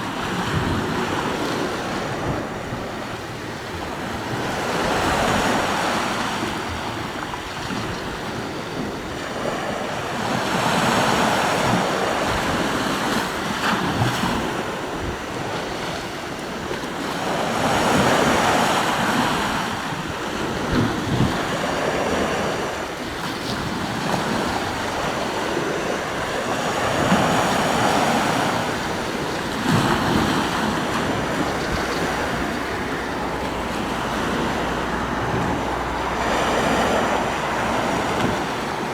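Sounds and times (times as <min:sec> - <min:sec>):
sea waves washing onto shore: 0:00.0 - 0:38.9.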